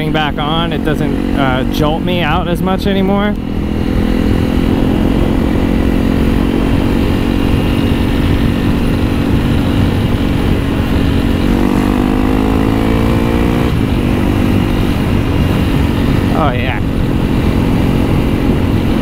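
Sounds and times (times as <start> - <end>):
motorcycle engine revving: 0.0 - 19.0
wind noise on microphone: 0.0 - 19.0.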